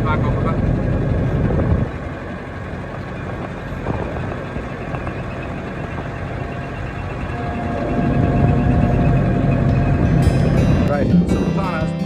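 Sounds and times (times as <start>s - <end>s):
diesel engine running: 0.0s - 11.8s.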